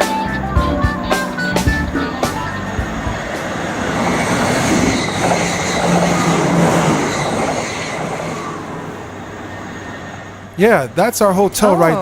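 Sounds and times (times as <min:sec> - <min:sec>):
passenger train rumbling: 0:00.0 - 0:10.9.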